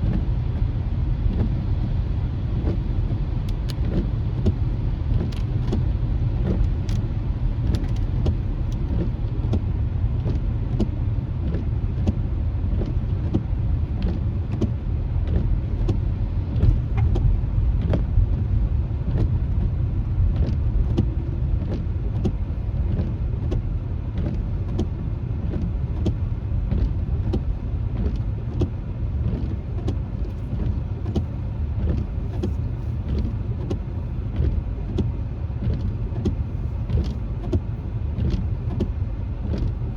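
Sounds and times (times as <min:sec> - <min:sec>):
car road and tyre rumble: 0:00.0 - 0:39.9.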